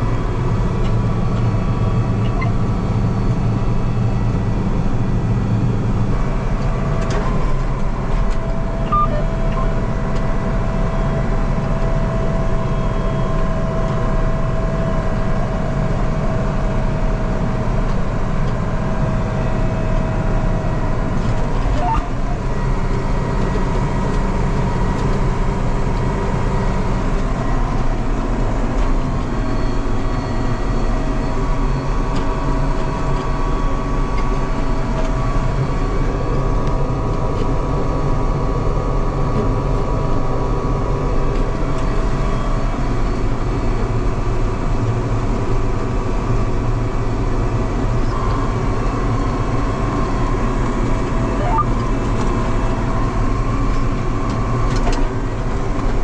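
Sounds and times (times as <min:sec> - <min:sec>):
steady whine: 0:00.0 - 0:56.0
tractor engine drone: 0:00.0 - 0:56.0.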